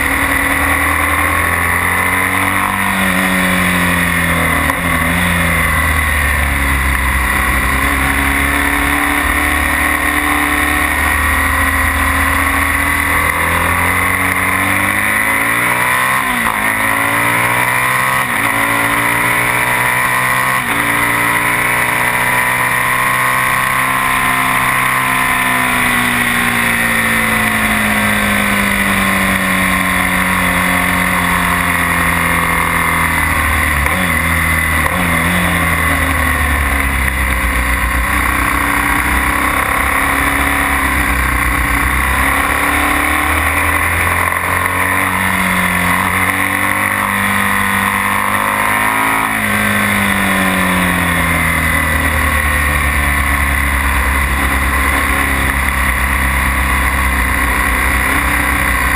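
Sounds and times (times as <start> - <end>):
motorcycle engine shifting gears: 0.0 - 58.9.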